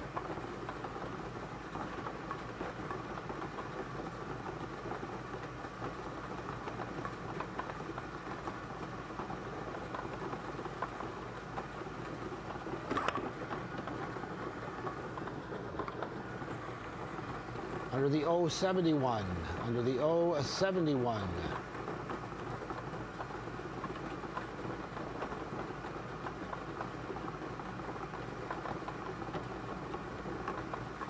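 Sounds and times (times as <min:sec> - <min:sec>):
ball blower running: 0:00.0 - 0:31.0.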